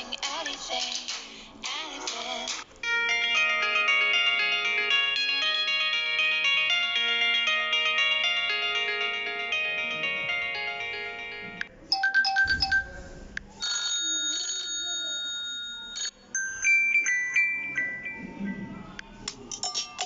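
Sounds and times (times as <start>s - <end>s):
electronic ringtone melodies: 2.8s - 19.0s.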